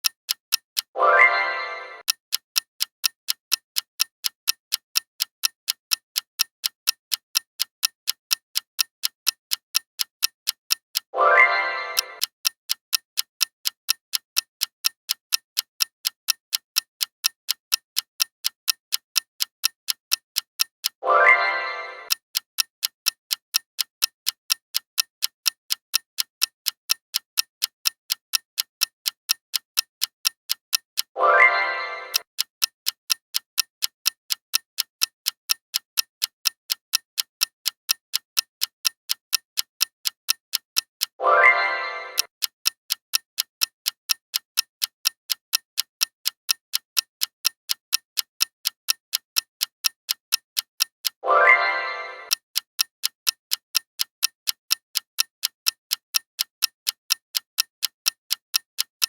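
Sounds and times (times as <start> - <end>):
countdown timer ticking: 0.0 - 58.7.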